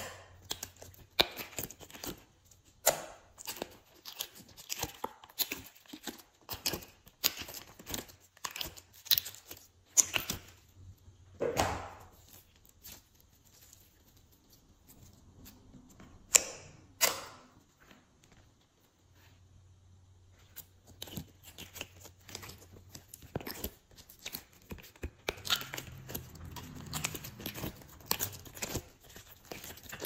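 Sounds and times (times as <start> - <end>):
slime squish: 0.0 - 19.4, 20.2 - 30.0.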